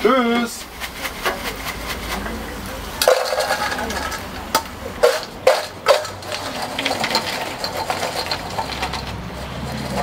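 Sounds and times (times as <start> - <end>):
fries rattling in metal bowl: 0.2 - 10.0.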